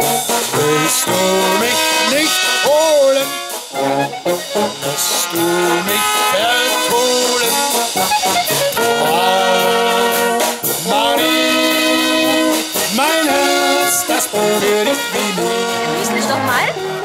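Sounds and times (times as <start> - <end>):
brass band horns playing: 0.0 - 17.0.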